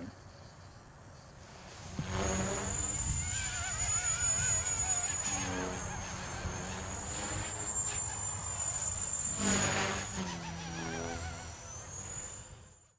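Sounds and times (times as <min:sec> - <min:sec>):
rc helicopter whine: 0:01.0 - 0:12.9.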